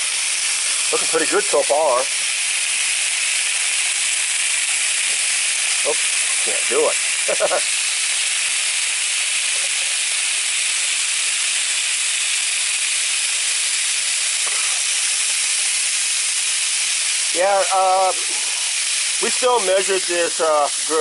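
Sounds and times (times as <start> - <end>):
steaks sizzling on a grill: 0.0 - 21.0.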